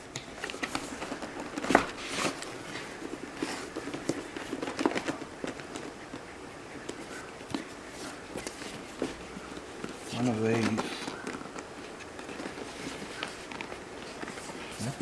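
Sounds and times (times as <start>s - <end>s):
computer parts clicking and rustling: 0.0s - 15.0s.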